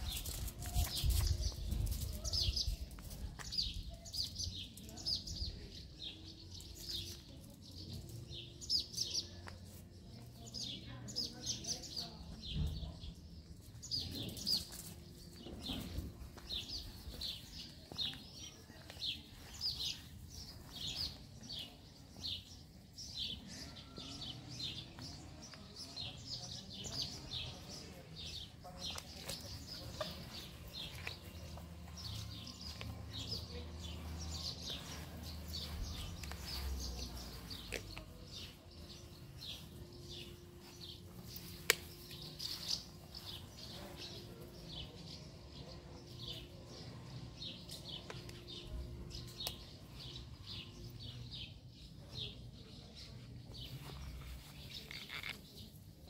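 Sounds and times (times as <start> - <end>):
small songbirds chirping: 0.0 - 56.0.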